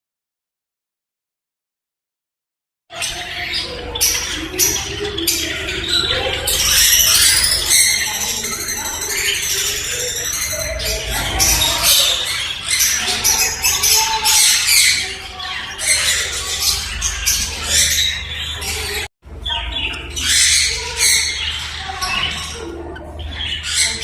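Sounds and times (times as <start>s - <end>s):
baby parrots squawking: 2.9s - 24.0s.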